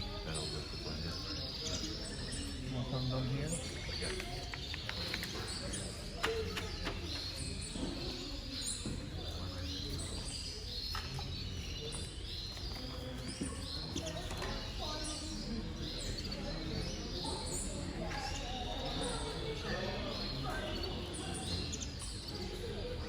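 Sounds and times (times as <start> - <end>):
canaries chirping: 0.0 - 23.0.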